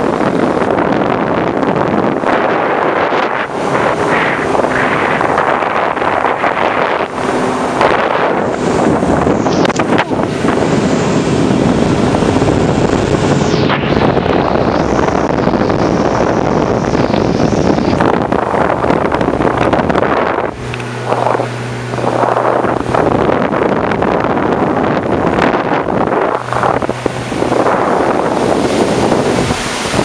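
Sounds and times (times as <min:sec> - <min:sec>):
boat engine running: 0:00.0 - 0:30.0
water rushing past hull: 0:00.0 - 0:30.0
wind buffeting microphone: 0:00.0 - 0:30.0.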